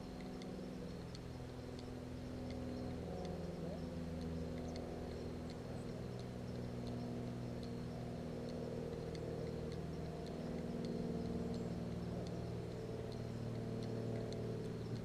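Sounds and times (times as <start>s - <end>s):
faint high ticks: 0.0s - 15.0s
motor humming: 0.0s - 15.0s.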